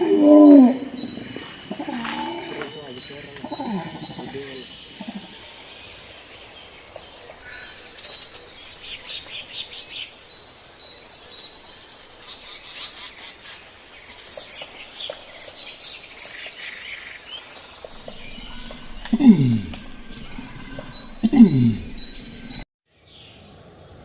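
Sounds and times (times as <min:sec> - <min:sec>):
birds chirping and trilling: 0:00.0 - 0:23.5.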